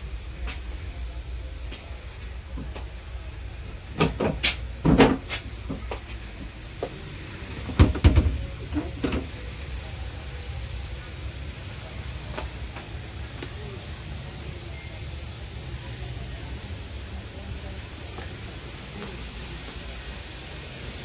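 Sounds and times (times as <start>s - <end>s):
low train rumble: 0.0s - 21.0s.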